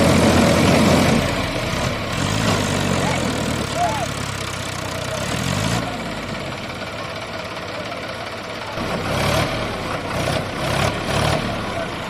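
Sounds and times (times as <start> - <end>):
tractor diesel engines under load: 0.0 - 12.0.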